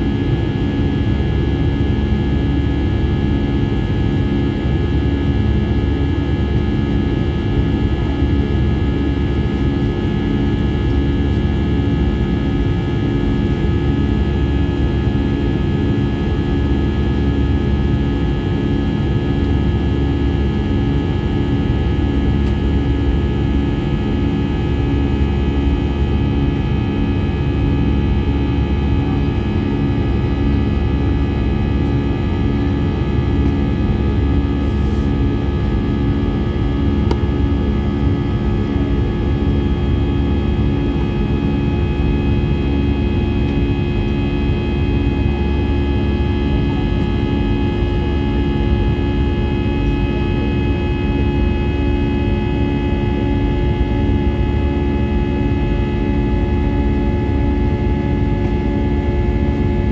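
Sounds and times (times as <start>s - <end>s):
airplane cabin noise: 0.0s - 59.9s
pulsing hum: 8.8s - 59.9s.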